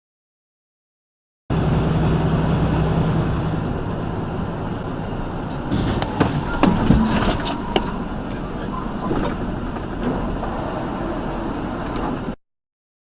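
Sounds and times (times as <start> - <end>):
vehicle road and engine noise: 1.5 - 12.4.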